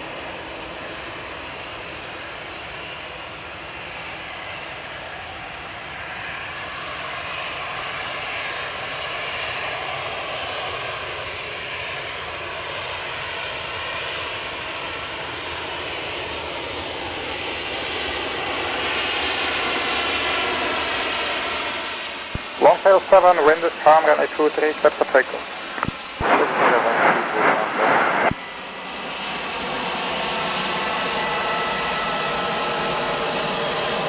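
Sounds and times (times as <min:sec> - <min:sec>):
jet engines taxiing: 0:00.0 - 0:34.0.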